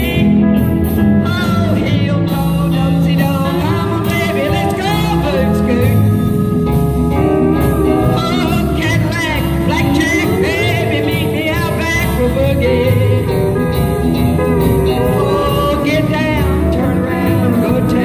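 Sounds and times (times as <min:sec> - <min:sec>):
live band with steel guitar: 0:00.0 - 0:18.0
woman singing: 0:01.2 - 0:06.5, 0:07.5 - 0:13.6, 0:14.6 - 0:18.0.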